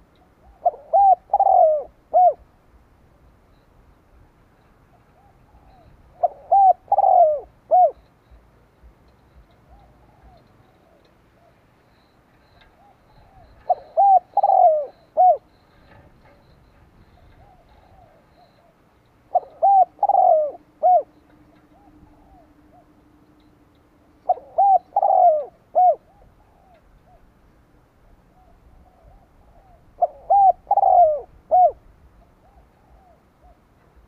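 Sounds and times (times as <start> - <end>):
dove cooing: 0.0 - 2.5, 4.9 - 8.0, 9.4 - 23.4, 24.1 - 27.4, 28.0 - 34.0.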